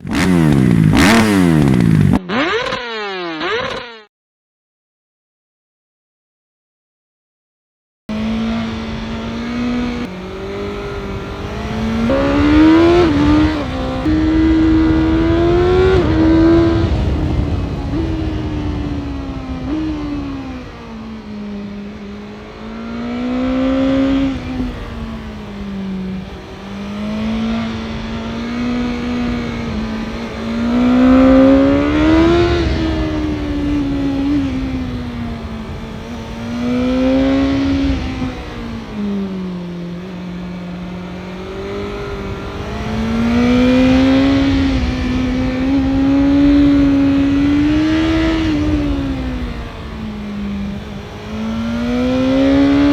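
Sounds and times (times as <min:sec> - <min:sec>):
synthetic motorcycle engine revving: 0:00.0 - 0:04.1, 0:08.1 - 0:52.9.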